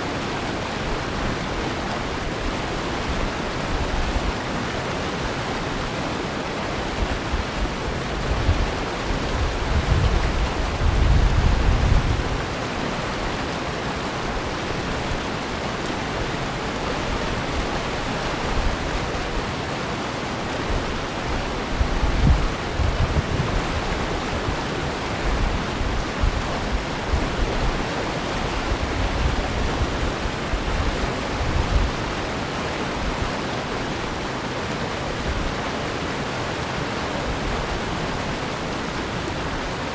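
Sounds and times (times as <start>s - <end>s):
water rushing over rapids: 0.0s - 39.9s.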